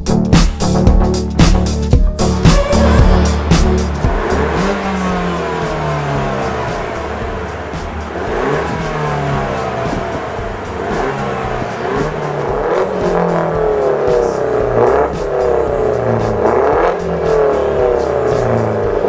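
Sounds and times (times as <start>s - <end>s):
car engine revving: 0.1s - 19.0s.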